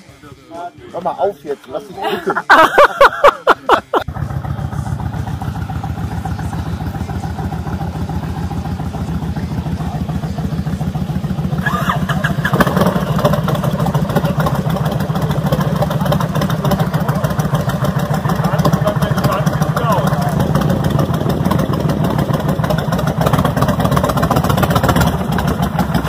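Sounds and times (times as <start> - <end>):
motorcycles idling: 1.0 - 26.0.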